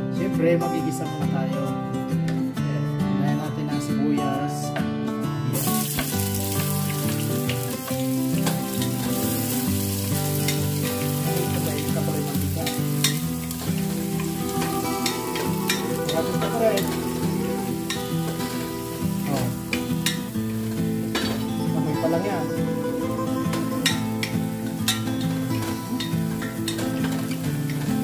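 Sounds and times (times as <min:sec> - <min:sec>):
onion sizzling in oil: 0:05.6 - 0:28.0.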